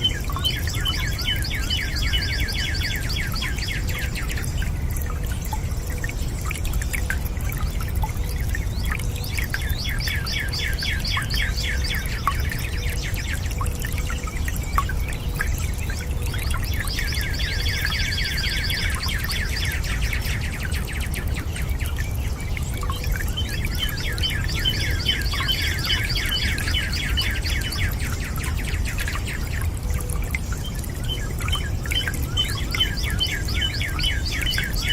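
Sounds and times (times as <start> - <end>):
running water rushing: 0.0 - 34.9
songbird chirping: 0.0 - 34.9.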